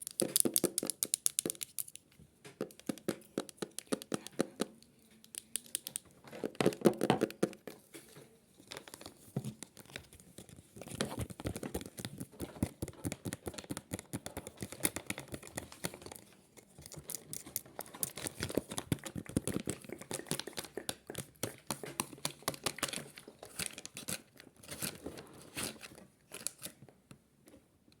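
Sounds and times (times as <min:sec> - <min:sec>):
crinkling handling noise: 0:00.0 - 0:27.7.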